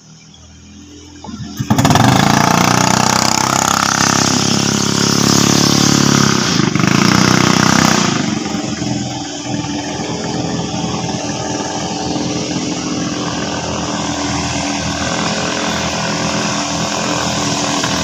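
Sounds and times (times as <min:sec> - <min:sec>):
boat engine running at high revs: 0:00.0 - 0:18.0.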